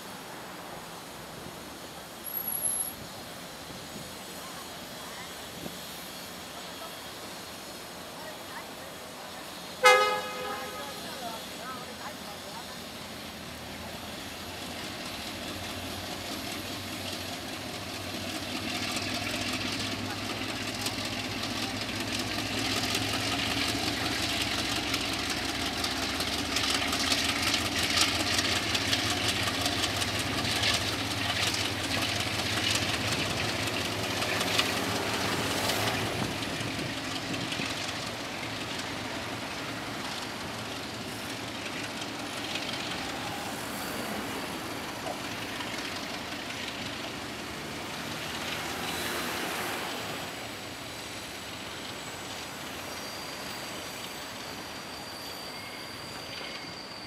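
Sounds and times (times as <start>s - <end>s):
diesel locomotive running: 0.0s - 57.0s
train wheels clattering over track: 2.2s - 50.2s.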